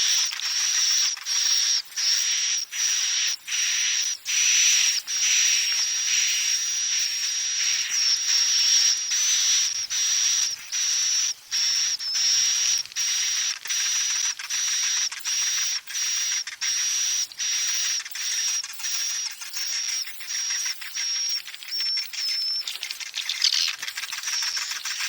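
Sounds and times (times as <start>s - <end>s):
buzzy hissing bird chatter: 0.0s - 21.6s, 22.6s - 25.0s.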